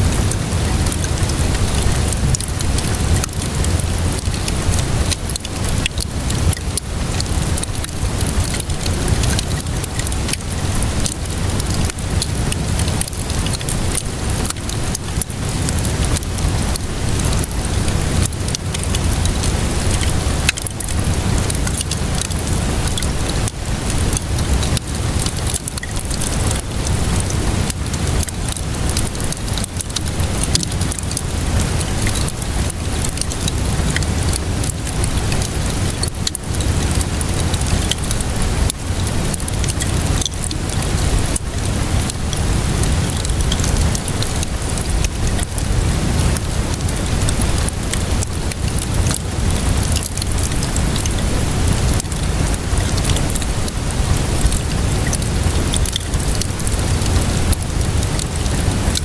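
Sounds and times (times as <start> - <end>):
steady rainfall: 0.0 - 59.0
wood fire crackling: 0.0 - 59.0.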